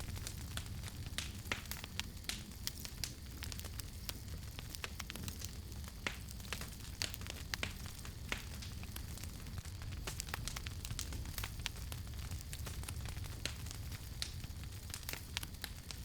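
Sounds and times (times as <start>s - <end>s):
low rumble of burning: 0.0s - 16.0s
wood fire crackling and popping: 0.0s - 16.0s.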